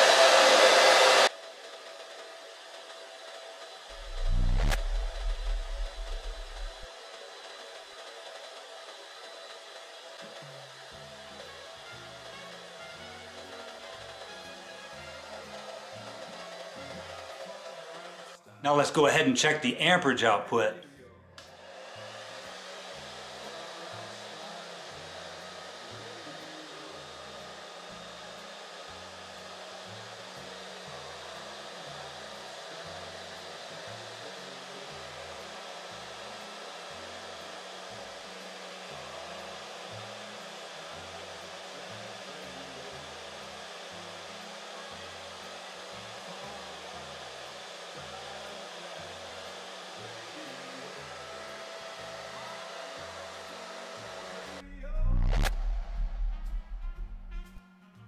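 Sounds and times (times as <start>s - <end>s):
heater fan blowing air: 0.0s - 18.0s, 21.5s - 57.6s.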